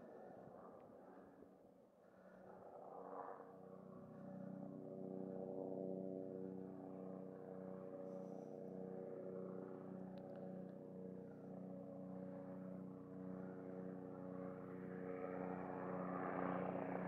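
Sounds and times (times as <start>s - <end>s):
helicopter in flight: 2.2s - 17.0s.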